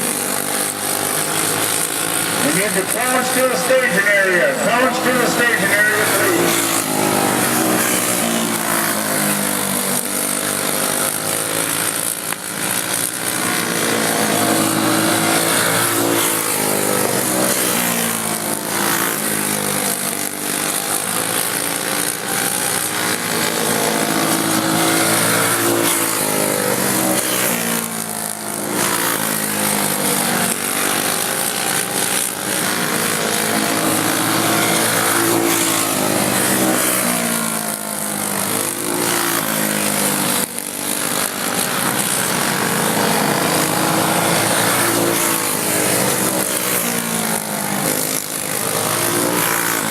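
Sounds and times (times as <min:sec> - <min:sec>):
kart engines revving: 0:00.0 - 0:49.9.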